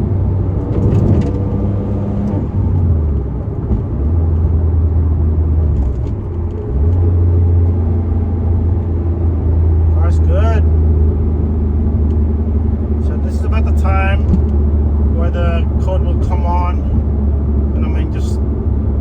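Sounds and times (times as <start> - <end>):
car engine drone: 0.0 - 19.0
road noise: 0.0 - 19.0.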